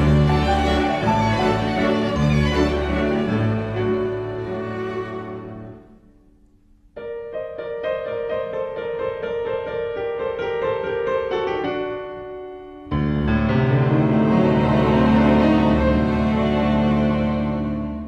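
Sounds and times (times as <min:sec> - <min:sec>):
background music: 0:00.0 - 0:08.5, 0:11.8 - 0:18.0
piano melody: 0:00.0 - 0:18.0.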